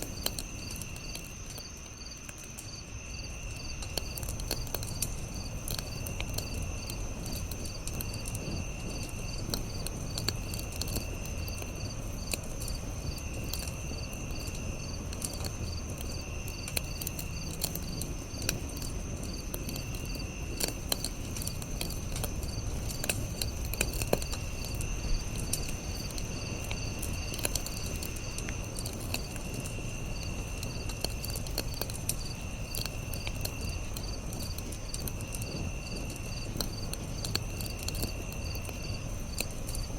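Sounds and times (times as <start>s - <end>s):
campfire crackling and popping: 0.0s - 39.9s
crickets trilling: 0.0s - 39.9s
intermittent insect call: 0.0s - 39.9s.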